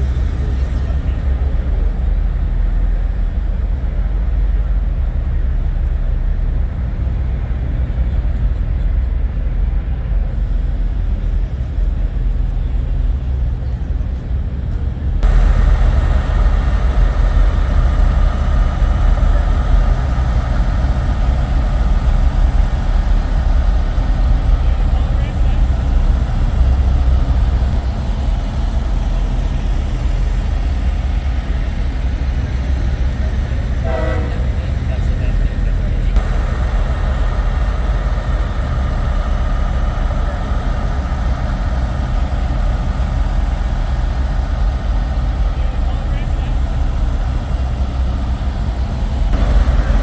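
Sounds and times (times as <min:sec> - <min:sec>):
diesel truck engine idling: 0:00.0 - 0:13.4, 0:15.2 - 0:50.0.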